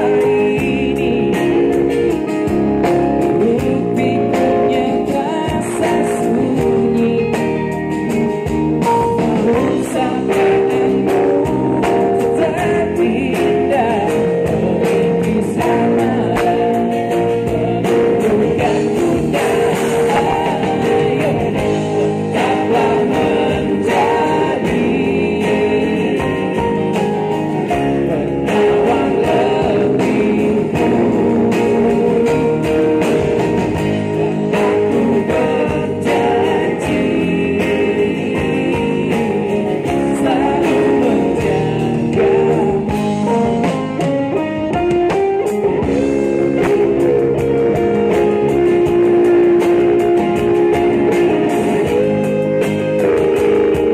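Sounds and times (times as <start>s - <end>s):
live pop band playing: 0.0s - 53.9s
person singing lead vocals: 0.0s - 53.9s.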